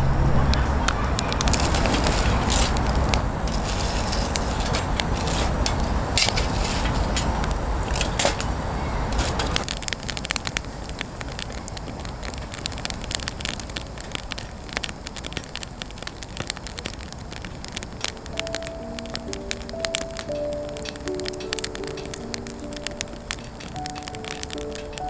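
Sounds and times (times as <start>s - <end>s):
campfire crackling and popping: 0.1s - 25.0s.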